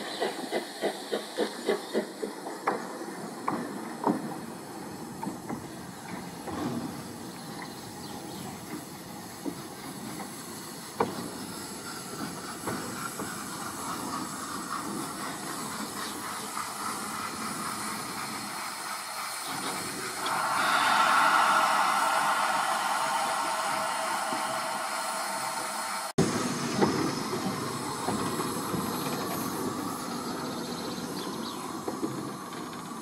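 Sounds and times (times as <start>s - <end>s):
steam hissing: 0.0s - 33.0s.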